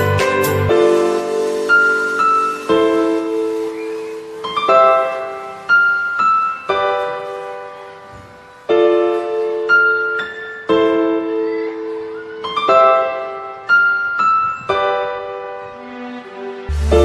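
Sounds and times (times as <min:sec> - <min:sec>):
slow gentle piano chords: 0:00.0 - 0:17.0.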